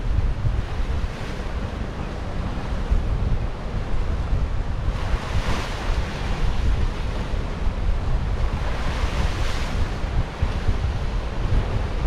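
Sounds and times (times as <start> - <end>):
wind rumble on microphone: 0.0 - 12.0
surf washing over rocks: 0.1 - 12.0.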